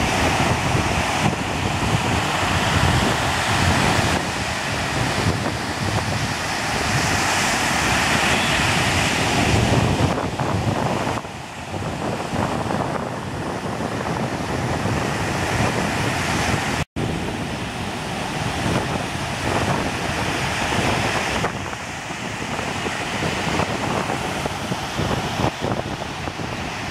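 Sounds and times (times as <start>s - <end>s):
ocean surf breaking: 0.0s - 26.9s
wind buffeting microphone: 0.0s - 26.9s.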